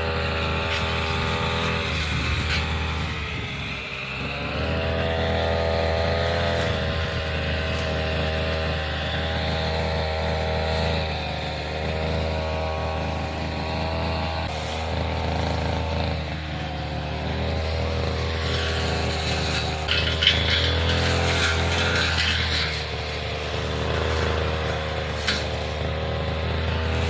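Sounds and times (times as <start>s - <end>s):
brush cutter cutting grass: 0.0s - 27.0s.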